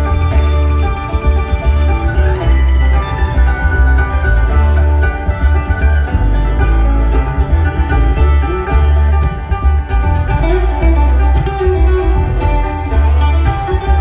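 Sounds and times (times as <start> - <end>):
mandolin picking: 0.0 - 14.0
upright bass line: 0.0 - 14.0.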